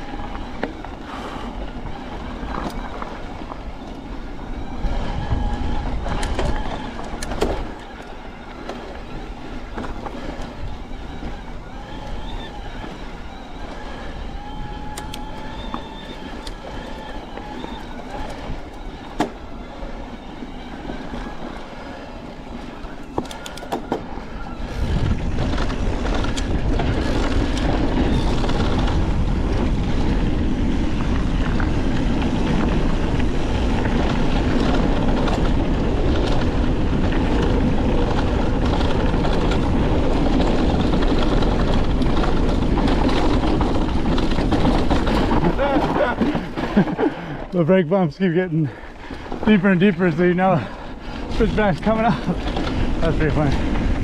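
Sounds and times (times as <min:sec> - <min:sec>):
bike clicks and rattles: 0:00.0 - 0:54.0
tyres on dirt: 0:00.0 - 0:54.0
wind noise: 0:00.0 - 0:54.0.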